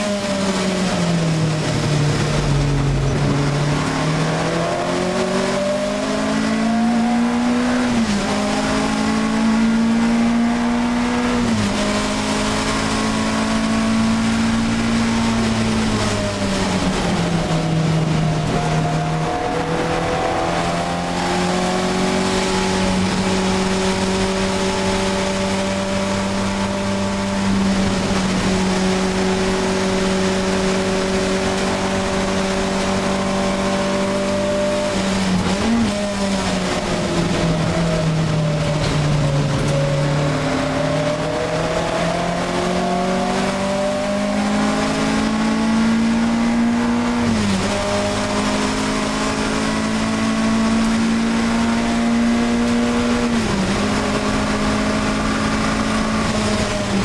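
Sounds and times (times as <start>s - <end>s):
racing car engine: 0.0s - 57.0s.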